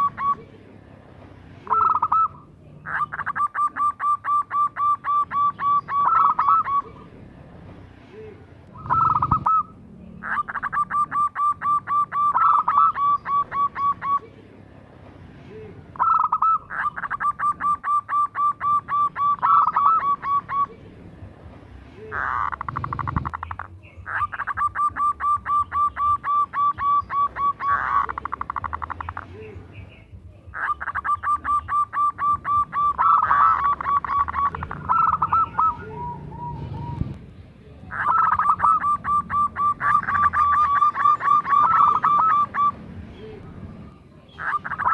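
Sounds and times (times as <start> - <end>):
dove cooing: 0.0 - 0.7, 1.6 - 7.2, 8.8 - 14.4, 16.0 - 20.8, 22.1 - 29.5, 30.5 - 37.2, 37.9 - 43.4.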